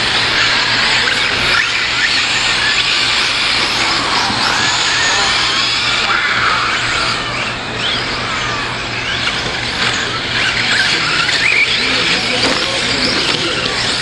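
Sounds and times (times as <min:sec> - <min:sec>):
toy truck motors whining: 0:00.0 - 0:14.0.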